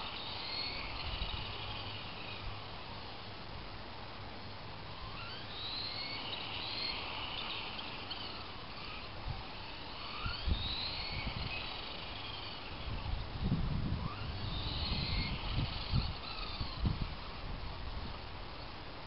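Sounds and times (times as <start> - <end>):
distant electric motor whining: 0.0 - 18.8
outdoor background noise: 0.0 - 19.0.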